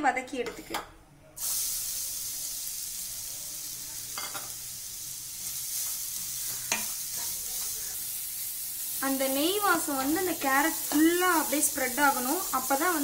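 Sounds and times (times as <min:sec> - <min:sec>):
food sizzling in hot fat: 0:01.4 - 0:13.0.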